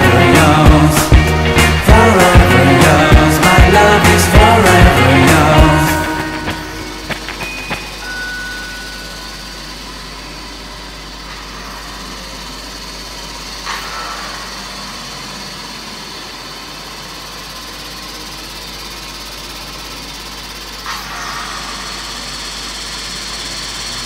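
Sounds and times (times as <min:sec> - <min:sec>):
mechanical hum of stage lights: 0:00.0 - 0:24.0.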